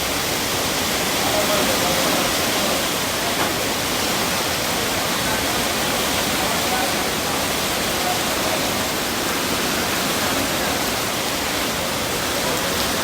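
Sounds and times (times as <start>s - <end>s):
heavy rain on a street: 0.0s - 13.0s.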